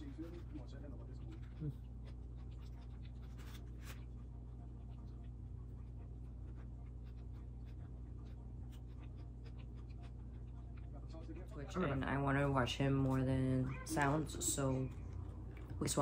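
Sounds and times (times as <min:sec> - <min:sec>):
person chewing food: 0:00.0 - 0:12.0, 0:14.0 - 0:16.0
steady low hum: 0:00.0 - 0:16.0.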